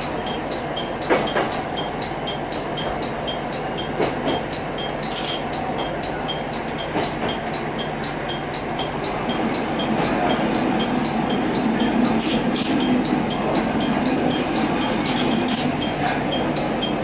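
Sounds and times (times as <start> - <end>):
diesel railcar rumble: 0.0 - 17.0
fast high-pitched ticking: 0.0 - 17.0.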